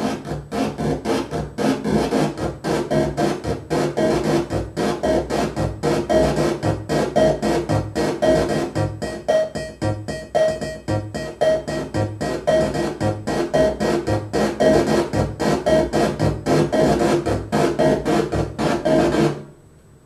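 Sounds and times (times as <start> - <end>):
rhythmic electronic pulse loop: 0.0 - 19.5.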